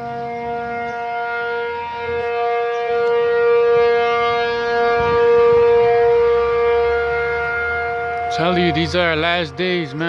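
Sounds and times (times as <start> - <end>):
loud horn-like drone: 0.0 - 10.0.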